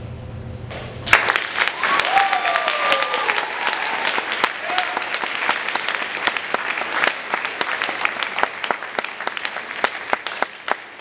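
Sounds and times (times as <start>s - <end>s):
audience applauding: 1.1s - 11.0s.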